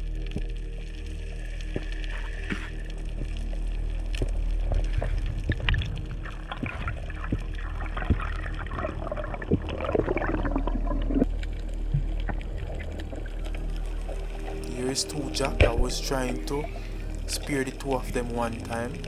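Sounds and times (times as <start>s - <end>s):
muffled underwater rumble: 0.0s - 19.0s
bubbling gurgles: 1.6s - 19.0s.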